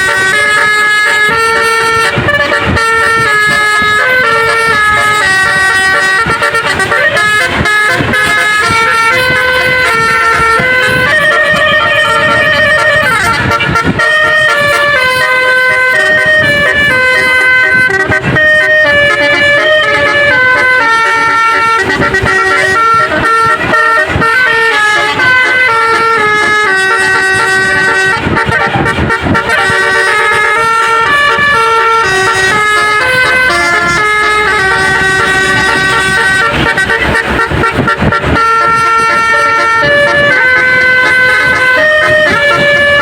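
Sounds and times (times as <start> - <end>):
melody horn playing a tune: 0.0 - 43.0.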